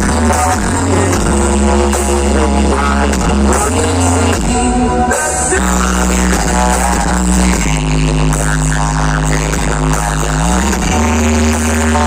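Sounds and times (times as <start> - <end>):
loud music over loudspeakers: 0.0 - 12.0.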